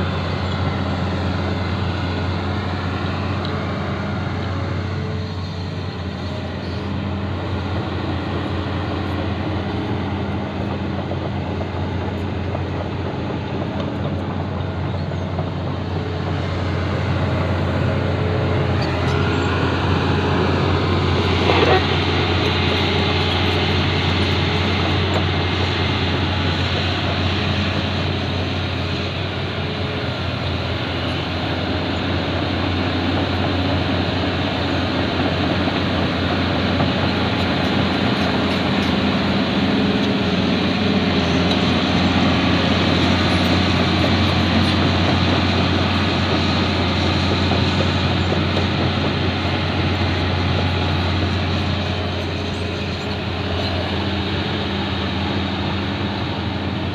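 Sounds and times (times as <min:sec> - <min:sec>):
diesel engine droning: 0:00.0 - 0:56.9.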